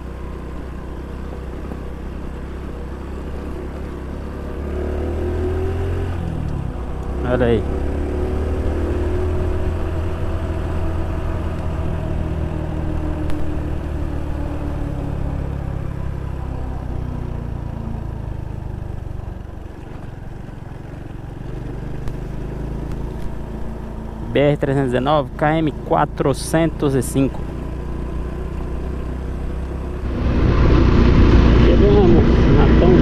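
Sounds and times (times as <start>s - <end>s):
small motorcycle engine running: 0.0s - 33.0s.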